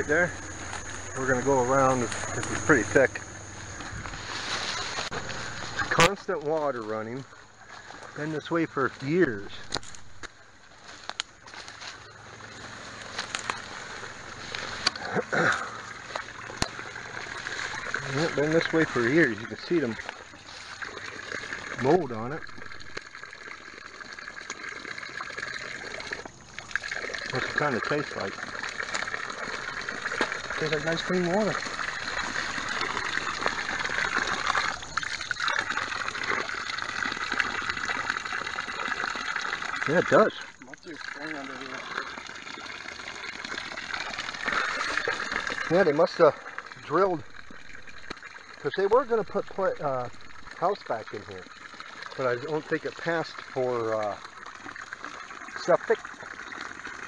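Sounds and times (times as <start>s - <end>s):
water running from a pipe: 0.0s - 57.0s.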